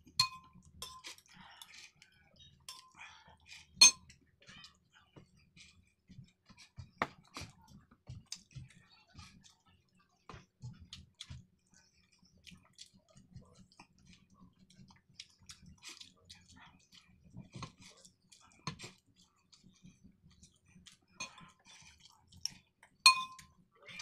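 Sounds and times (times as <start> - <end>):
person chewing and smacking lips: 0.6 - 2.1, 2.8 - 23.5.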